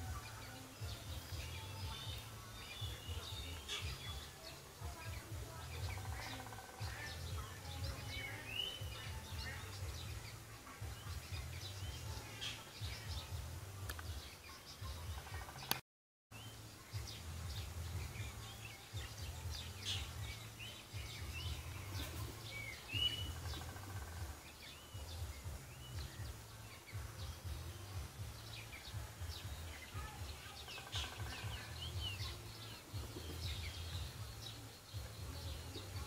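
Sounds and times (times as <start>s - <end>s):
wild birds chirping: 0.0s - 36.0s.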